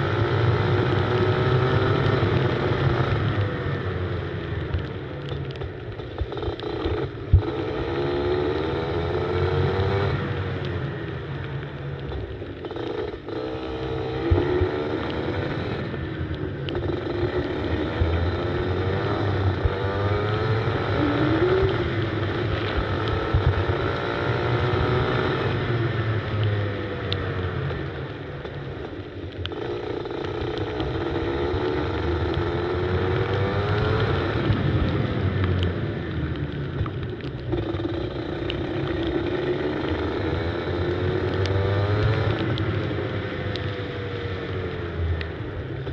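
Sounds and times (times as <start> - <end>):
go-kart engine accelerating: 6.0 - 11.1, 12.1 - 45.9.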